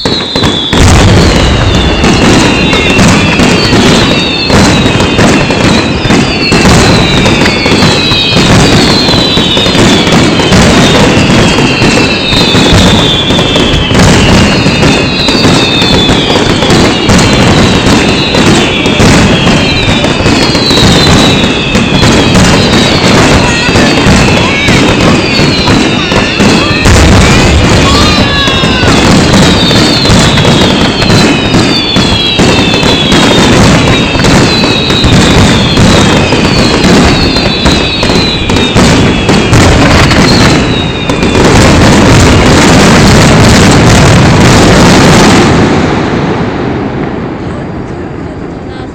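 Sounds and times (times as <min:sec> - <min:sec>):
falling firework whistles: 0:00.0 - 0:47.2
fireworks bangs and crackling: 0:00.0 - 0:48.9.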